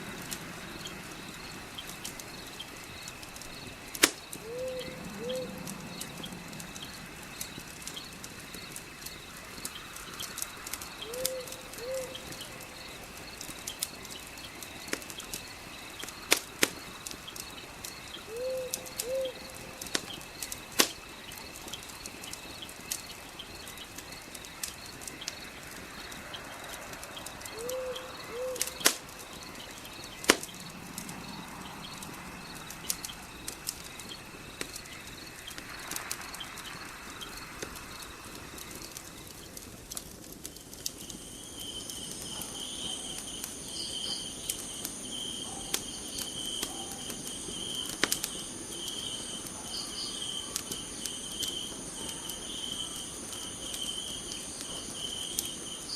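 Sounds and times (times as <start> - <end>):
crickets chirping: 0.0 - 55.9
wood fire crackling and popping: 0.0 - 55.9.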